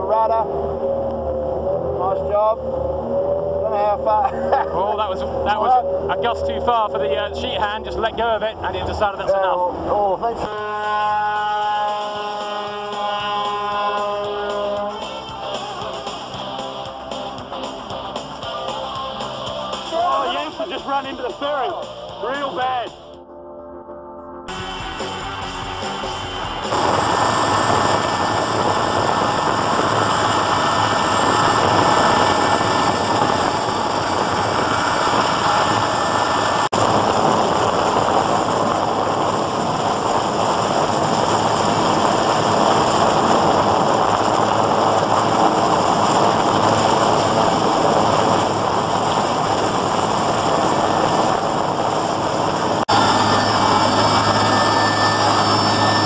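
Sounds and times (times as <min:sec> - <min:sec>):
helicopter engine and rotor noise: 0:00.0 - 0:11.6, 0:12.2 - 0:23.0, 0:24.5 - 0:56.0.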